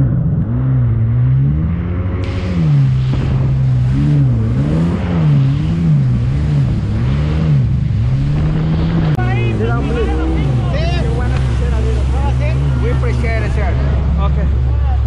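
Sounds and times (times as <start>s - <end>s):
jet ski engine running: 0.0s - 15.0s
wind: 0.0s - 15.0s
water spray rushing: 2.2s - 15.0s.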